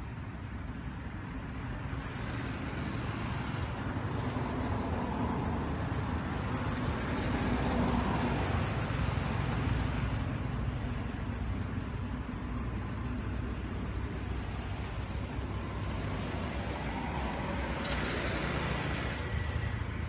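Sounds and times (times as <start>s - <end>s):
low rumble of motor traffic: 0.0s - 20.0s.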